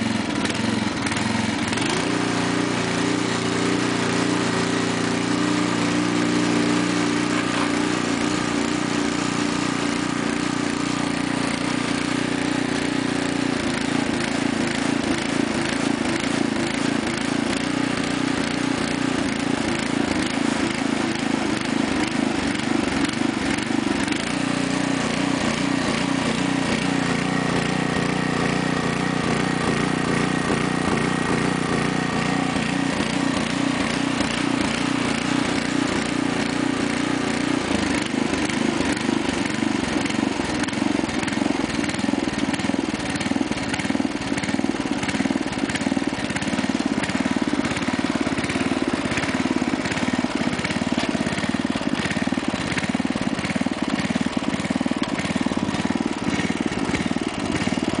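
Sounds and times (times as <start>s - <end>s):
tiller engine running: 0.0s - 58.0s.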